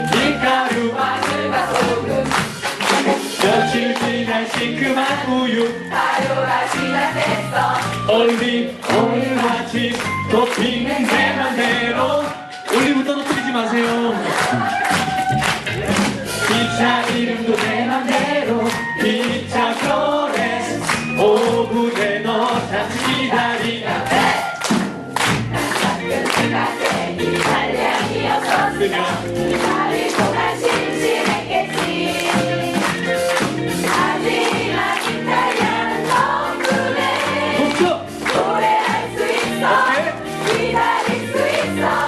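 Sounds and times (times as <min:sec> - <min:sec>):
voices singing together: 0:00.0 - 0:12.9, 0:15.7 - 0:24.6, 0:25.4 - 0:42.0
band accompaniment with steady beat: 0:00.0 - 0:42.0.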